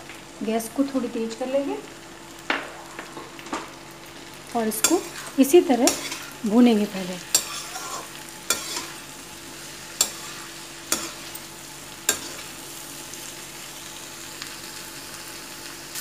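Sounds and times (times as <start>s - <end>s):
vegetables sizzling in pan: 0.0s - 16.0s.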